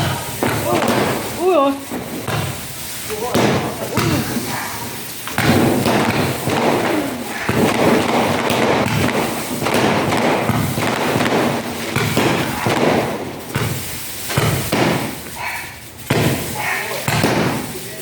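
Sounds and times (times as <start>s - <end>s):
aerial fireworks thumping: 0.0s - 18.0s.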